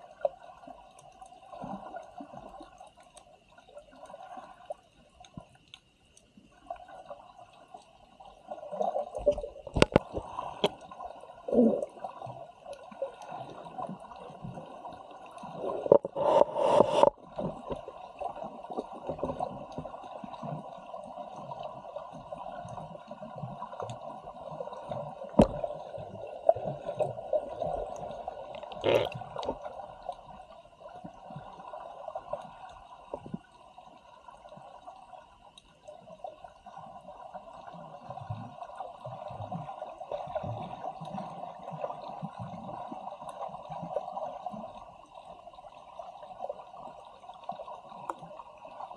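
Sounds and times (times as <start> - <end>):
muffled water gurgling: 0.0 - 48.9.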